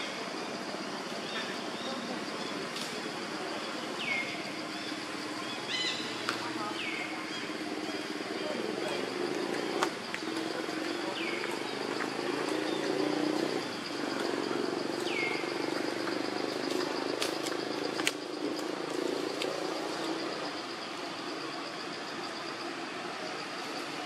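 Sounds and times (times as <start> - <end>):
high insect drone: 0.0 - 24.0
low constant hum: 0.0 - 24.0.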